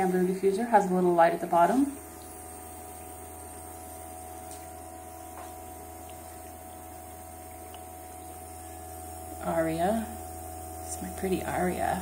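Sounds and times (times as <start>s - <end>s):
ultrasonic diffusers humming: 0.0s - 12.0s.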